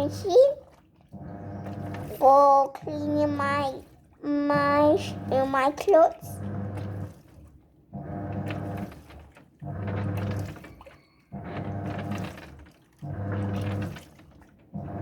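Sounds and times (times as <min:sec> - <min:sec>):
washing machine motor humming: 0:00.0 - 0:15.0
water sloshing in drum: 0:00.0 - 0:15.0.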